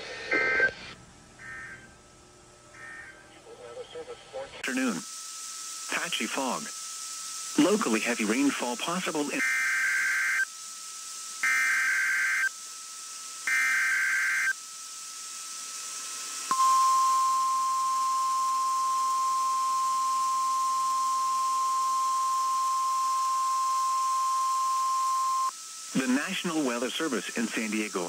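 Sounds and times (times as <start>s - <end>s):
steady alarm tone: 1.4s - 2.1s, 2.7s - 3.3s, 4.6s - 28.0s.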